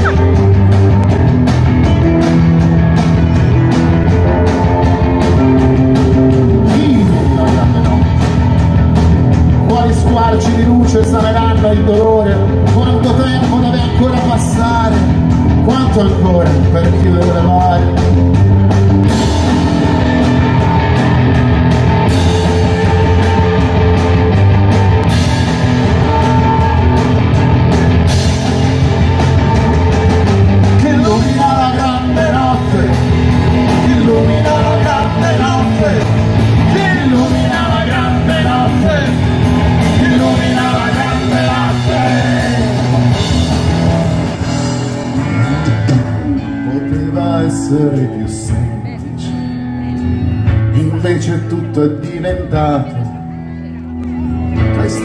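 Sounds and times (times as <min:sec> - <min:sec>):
lead guitar bending pitch: 0:00.0 - 0:55.0
live rock band playing: 0:00.0 - 0:55.0.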